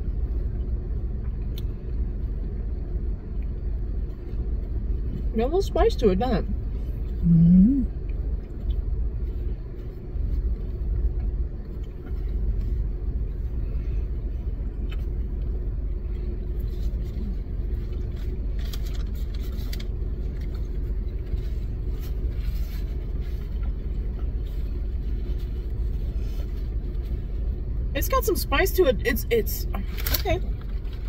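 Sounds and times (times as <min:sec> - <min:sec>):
car idling rumble: 0:00.0 - 0:31.0
faint steady hum: 0:00.0 - 0:31.0.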